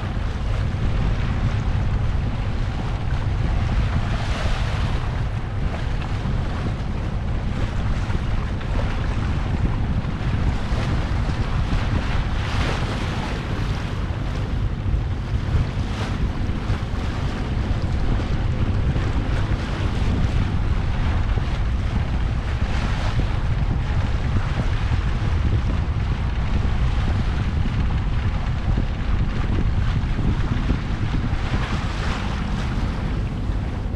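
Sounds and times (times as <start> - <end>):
rushing splashing water: 0.0 - 33.9
wind buffeting microphone: 0.0 - 33.9.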